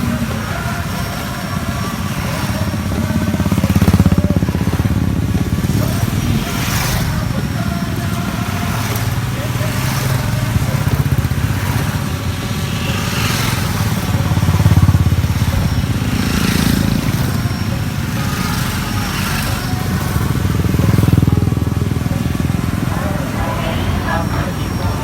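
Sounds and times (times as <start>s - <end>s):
motorcycles riding past: 0.0s - 25.0s.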